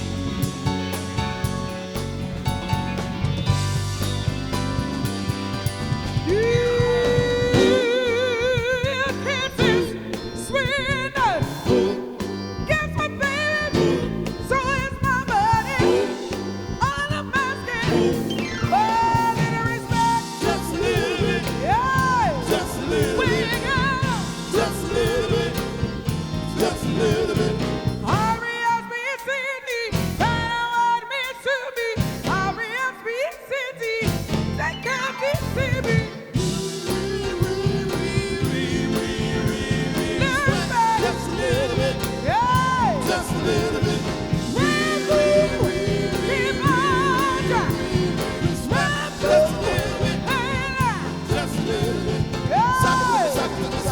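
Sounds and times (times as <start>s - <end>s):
soul band playing: 0.0s - 53.9s.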